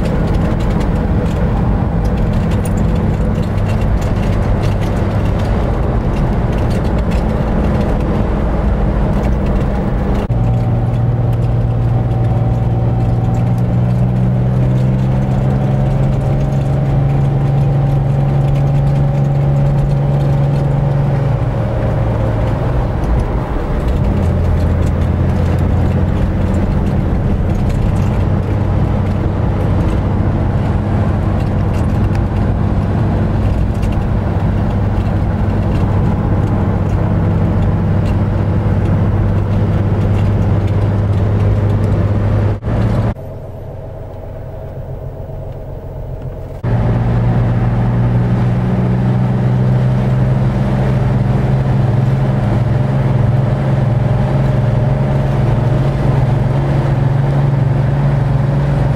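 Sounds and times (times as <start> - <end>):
car engine running: 0.0 - 58.9.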